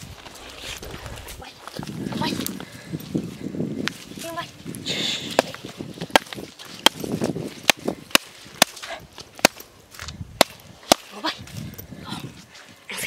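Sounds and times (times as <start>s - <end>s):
grass and dirt rustling: 0.0s - 13.0s.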